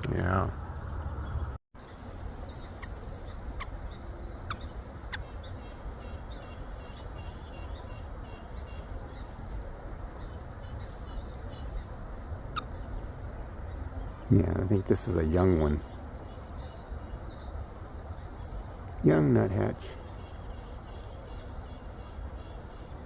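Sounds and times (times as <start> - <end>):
small songbirds chirping: 0.0 - 23.0.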